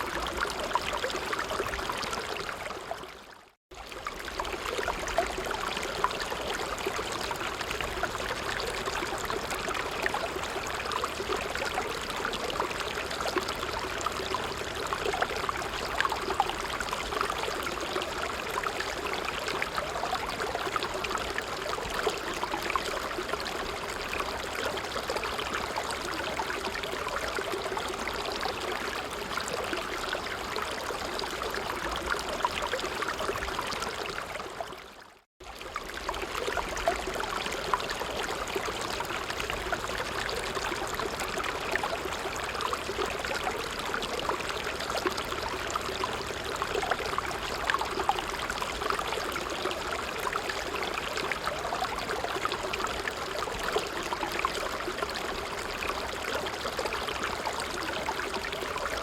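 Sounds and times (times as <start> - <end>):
brook babbling over stones: 0.0 - 59.0.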